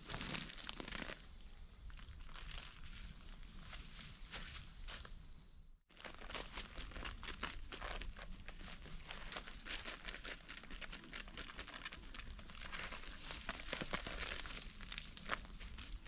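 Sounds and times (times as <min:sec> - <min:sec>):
crunching of dry ground litter: 0:00.0 - 0:05.2, 0:05.9 - 0:16.0.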